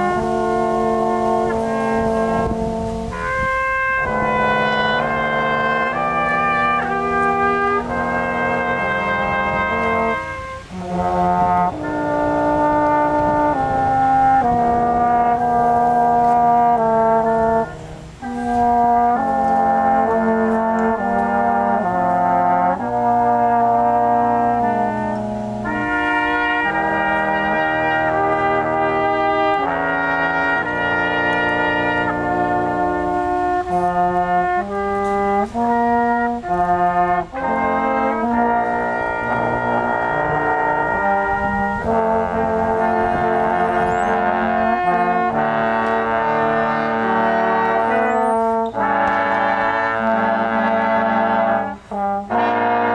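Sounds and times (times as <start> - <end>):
brass quintet playing chords: 0.0 - 52.9.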